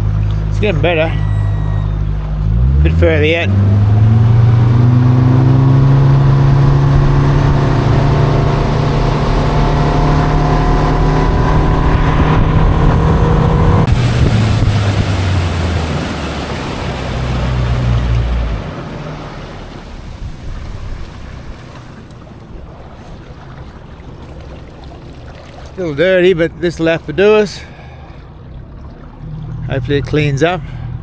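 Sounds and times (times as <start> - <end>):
outboard motor running: 0.0 - 31.0
water: 0.0 - 31.0
wind: 0.0 - 31.0.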